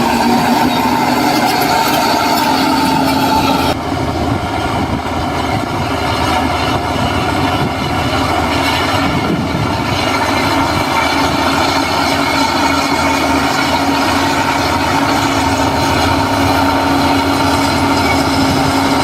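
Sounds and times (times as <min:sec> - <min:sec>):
diesel machinery engine running: 0:00.0 - 0:19.0.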